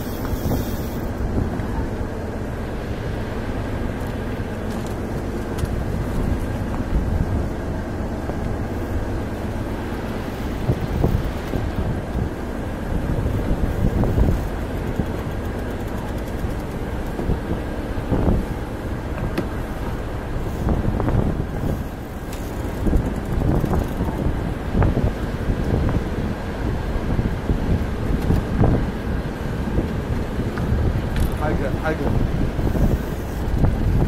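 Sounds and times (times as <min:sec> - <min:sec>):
engine hum: 0:00.0 - 0:34.0
wind rumbling on microphone: 0:00.0 - 0:34.0.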